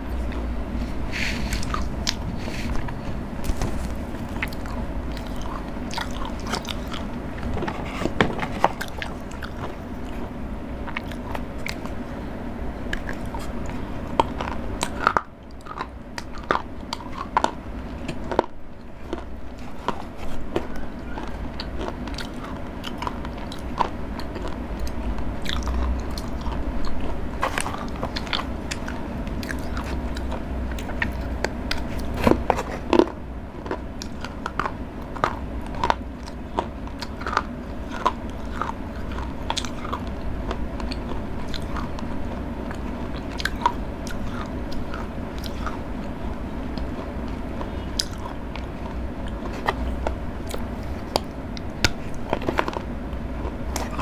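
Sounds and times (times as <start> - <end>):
chocolate being bitten and chewed: 0.0 - 54.0
faint low hum: 0.0 - 54.0.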